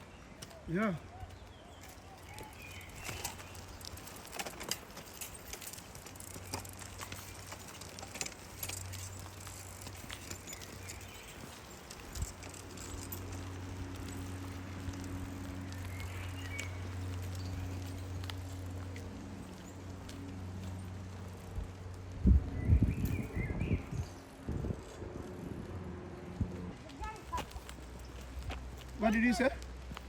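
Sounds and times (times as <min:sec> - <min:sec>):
leaves crackling underfoot: 0:00.0 - 0:30.0.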